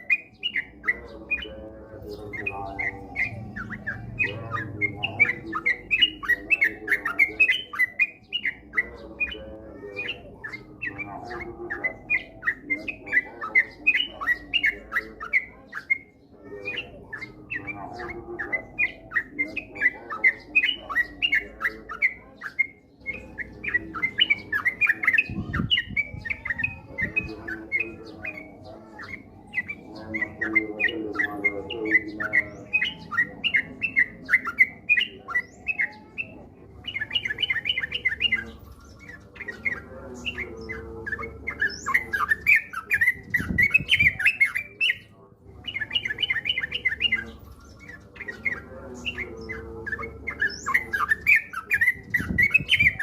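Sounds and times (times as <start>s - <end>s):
bird singing chirpy notes: 0.0s - 53.0s.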